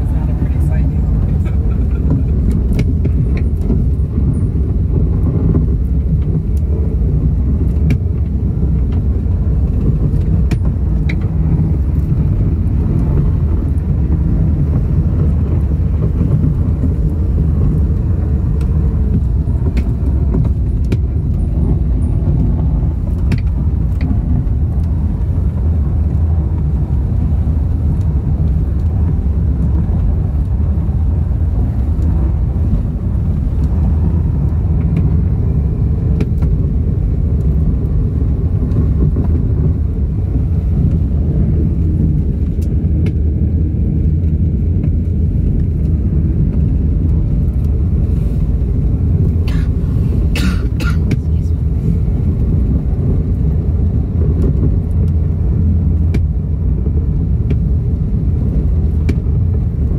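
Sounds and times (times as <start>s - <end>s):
snowmobile engine rumble: 0.0s - 59.9s.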